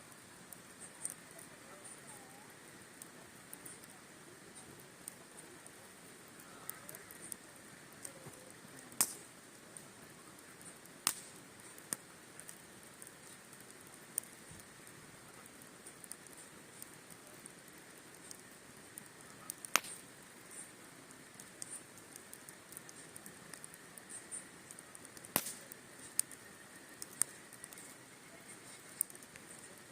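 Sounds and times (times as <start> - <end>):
campfire crackling: 0.0 - 29.9
burning wood popping: 0.1 - 29.9.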